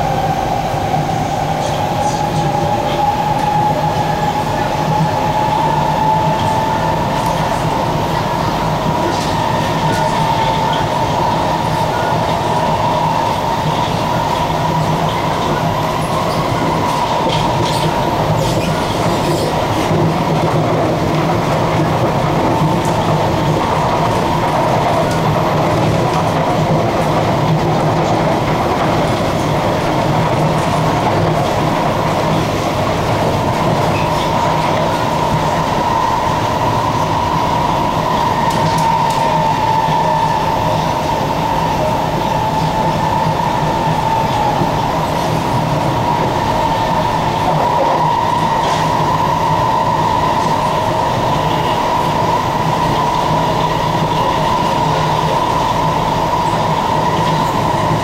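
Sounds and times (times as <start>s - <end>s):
electric train running with whine: 0.0s - 58.0s.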